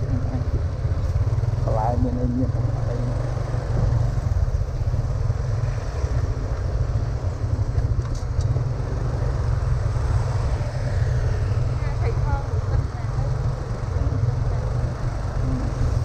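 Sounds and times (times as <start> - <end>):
vehicle road rumble: 0.0 - 16.0.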